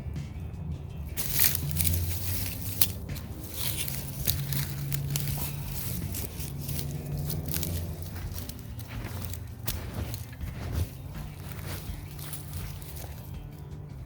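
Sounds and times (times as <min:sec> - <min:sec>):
digging in loose soil: 0:00.9 - 0:14.0.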